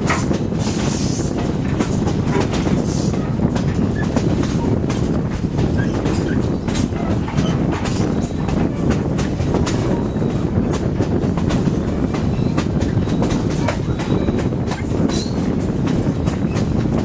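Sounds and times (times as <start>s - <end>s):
train rumbling along track: 0.0s - 17.0s
wheels clicking over rails: 0.0s - 17.0s.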